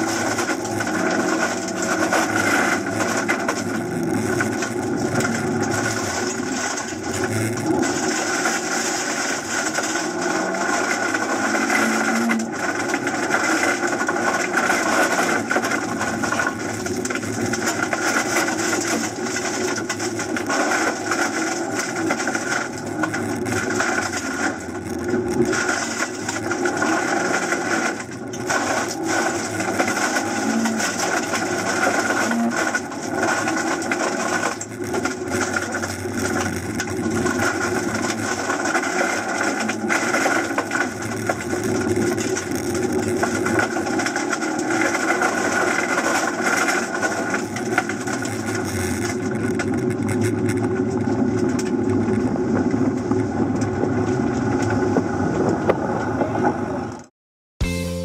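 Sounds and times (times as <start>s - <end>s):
car engine revving: 0.0s - 49.7s
tyres on gravel: 0.0s - 57.0s.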